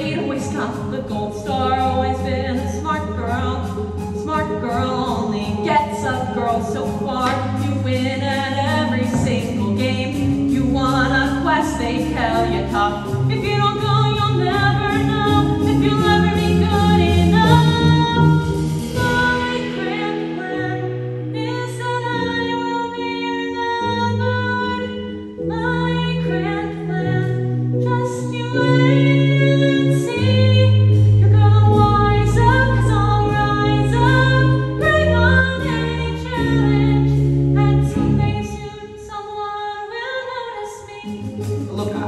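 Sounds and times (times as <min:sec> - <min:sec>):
instrumental accompaniment: 0:00.0 - 0:42.0
woman singing: 0:00.0 - 0:42.0.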